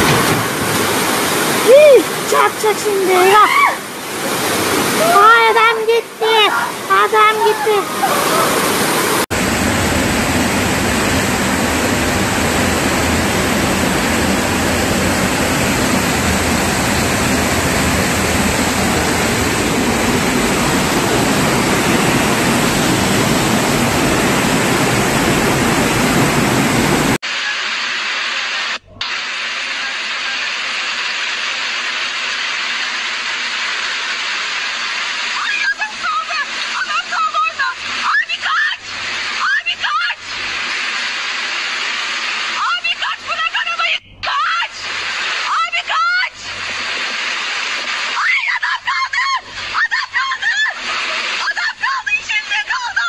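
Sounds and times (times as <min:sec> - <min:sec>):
torrent of water rushing: 0:00.0 - 0:53.0.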